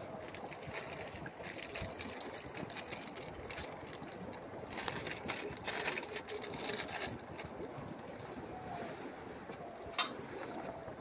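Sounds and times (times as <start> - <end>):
crackles and rustles: 0.0 - 11.0
wind on microphone: 0.0 - 11.0.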